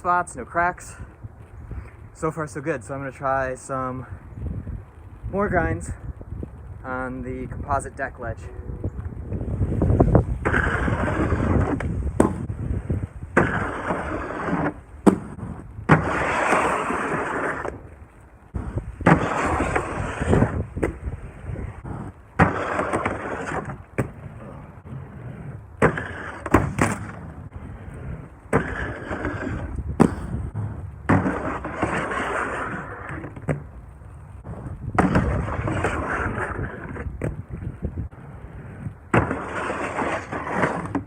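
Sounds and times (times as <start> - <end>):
skates grinding along a ledge: 0.0 - 41.0
skate frames clacking: 7.9 - 41.0.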